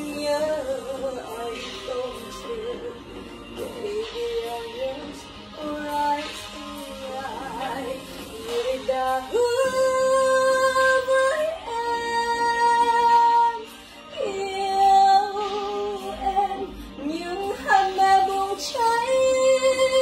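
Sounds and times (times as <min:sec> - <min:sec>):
woman singing a slow ballad: 0:00.0 - 0:20.0.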